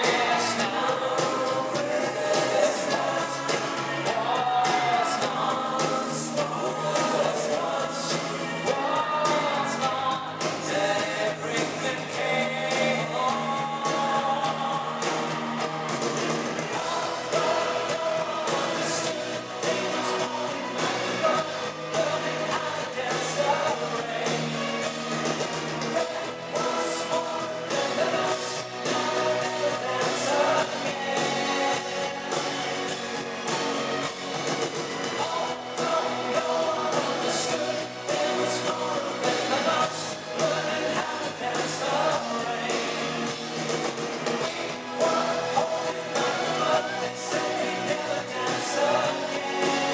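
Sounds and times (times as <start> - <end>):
person singing: 0.0 - 34.2, 35.0 - 49.9
live pop-rock band: 0.0 - 49.9.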